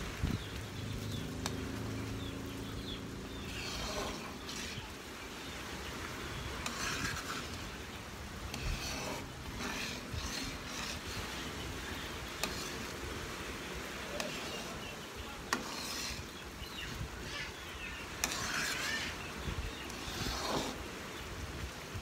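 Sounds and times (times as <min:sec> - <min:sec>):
thick mixture simmering: 0:00.0 - 0:22.0
metal ladle scraping a pan: 0:02.2 - 0:21.0.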